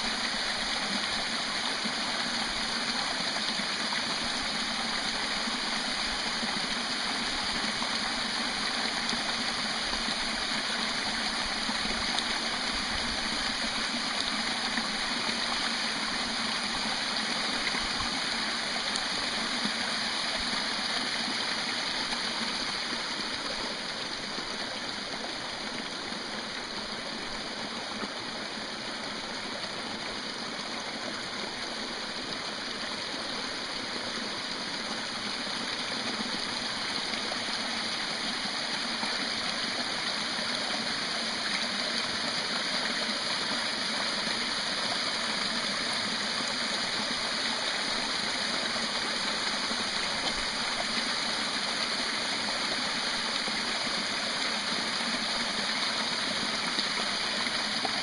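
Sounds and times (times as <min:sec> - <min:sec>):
waterfall pouring over rock: 0:00.0 - 0:58.0.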